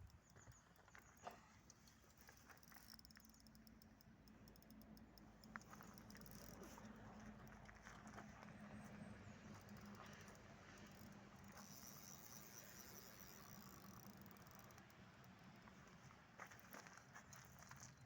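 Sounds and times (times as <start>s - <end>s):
light ticks: 0.0s - 8.5s, 9.5s - 17.0s.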